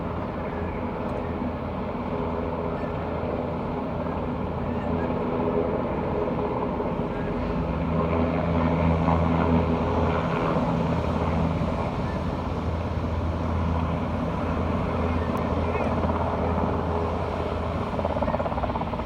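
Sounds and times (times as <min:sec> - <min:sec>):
helicopter rotor and turbine drone: 0:00.0 - 0:19.0.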